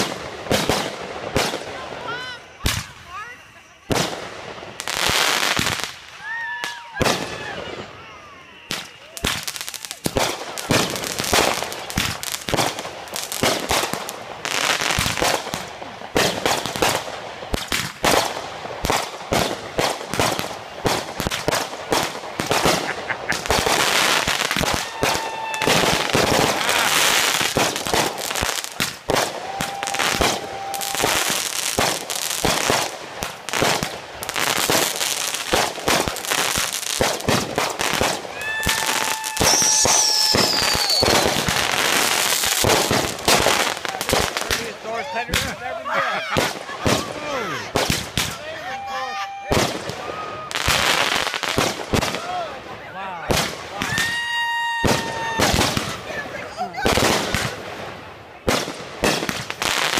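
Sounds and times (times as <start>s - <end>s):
firework whistling: 0.0s - 52.2s, 53.3s - 56.2s
fireworks bangs and crackling: 0.0s - 59.9s.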